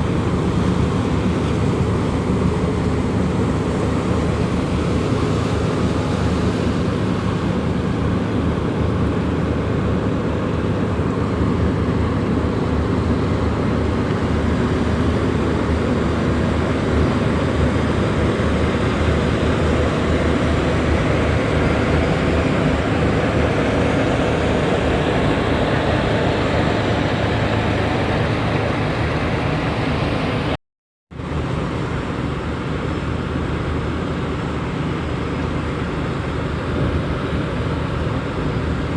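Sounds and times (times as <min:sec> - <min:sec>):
marine diesel engine drone: 0:00.0 - 0:38.9.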